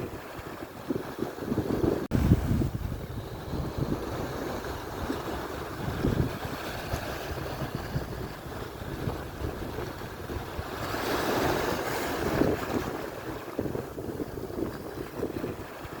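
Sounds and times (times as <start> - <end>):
ocean surf washing ashore: 0.0 - 16.0
wind buffeting microphone: 0.0 - 16.0.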